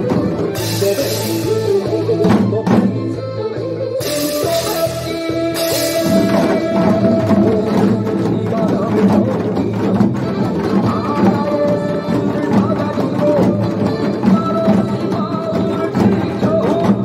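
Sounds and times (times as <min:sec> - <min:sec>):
recorded song with singing: 0:00.0 - 0:17.0.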